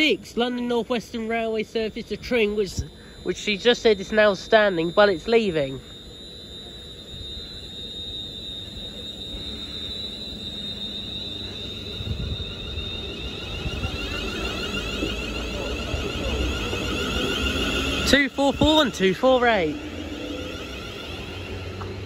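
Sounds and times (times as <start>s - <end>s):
high electric whine: 0.0s - 22.0s
shifting electronic tones: 0.0s - 22.0s
train low rumble: 0.0s - 22.0s.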